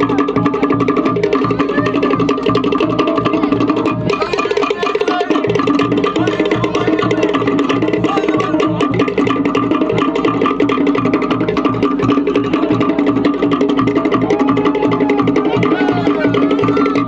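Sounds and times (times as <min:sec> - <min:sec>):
deep drum beat: 0:00.0 - 0:17.0
slit log drums: 0:00.0 - 0:17.0.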